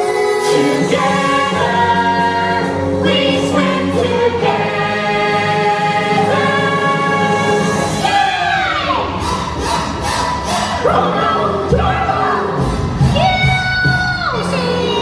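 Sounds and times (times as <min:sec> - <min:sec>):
choir singing long notes: 0:00.0 - 0:13.1
orchestral music: 0:00.0 - 0:15.0.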